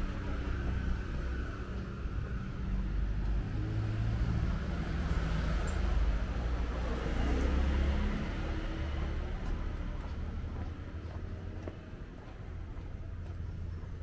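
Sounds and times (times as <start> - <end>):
city street noise: 0.0 - 14.0
vehicle engines running: 0.0 - 14.0.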